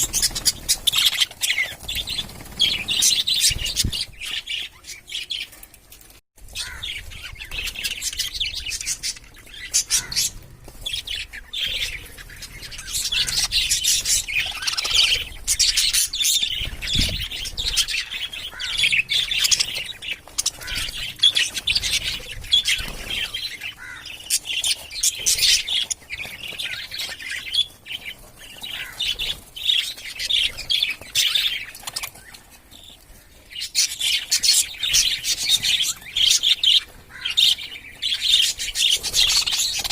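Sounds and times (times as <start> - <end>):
budgerigars chirping: 0.0 - 5.6, 6.6 - 39.9.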